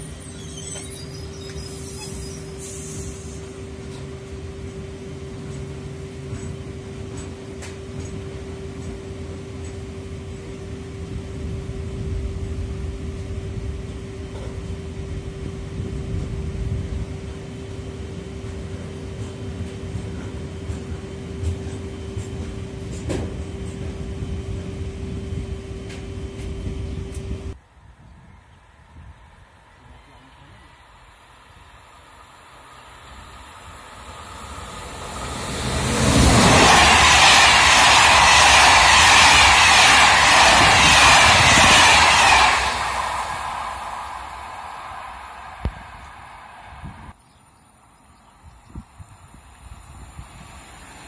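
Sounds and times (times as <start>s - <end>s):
train wheels rumbling on rails: 0.0s - 27.6s, 33.2s - 47.2s.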